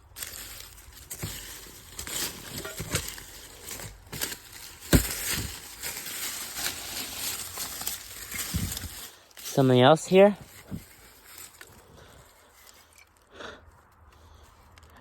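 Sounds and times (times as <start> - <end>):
hands rummaging through glass debris: 0.1 - 13.0.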